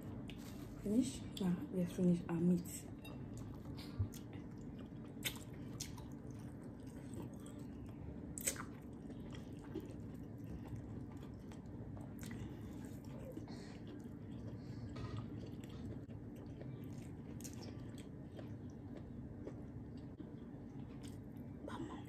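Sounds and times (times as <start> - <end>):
steady low hum: 0.0 - 22.0
person chewing meat: 3.3 - 21.6.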